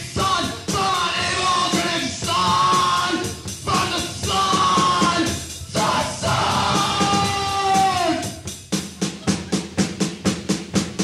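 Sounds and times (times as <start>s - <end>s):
punk rock music: 0.0s - 11.0s.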